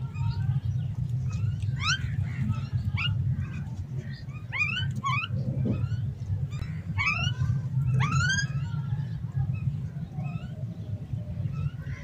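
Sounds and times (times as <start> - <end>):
steady low hum: 0.0 - 12.0
birds upward sweeping calls: 0.2 - 12.0.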